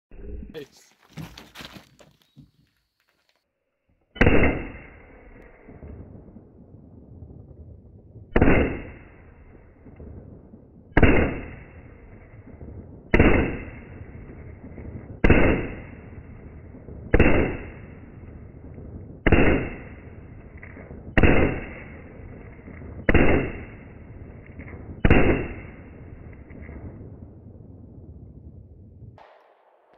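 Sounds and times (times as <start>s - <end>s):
slowed pistol shots: 4.1s - 29.9s.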